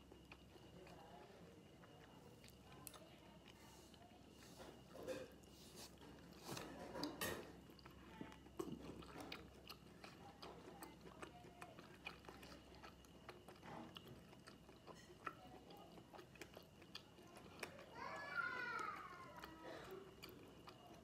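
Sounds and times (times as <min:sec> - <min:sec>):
soft chewing clicks: 0:00.0 - 0:21.0.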